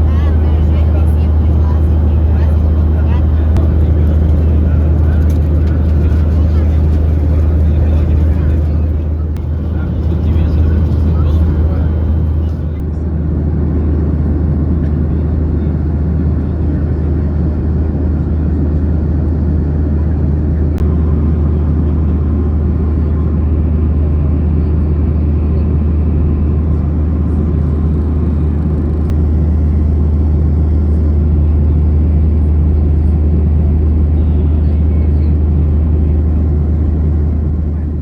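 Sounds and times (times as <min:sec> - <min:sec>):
jet engine rumble: 0:00.0 - 0:38.0.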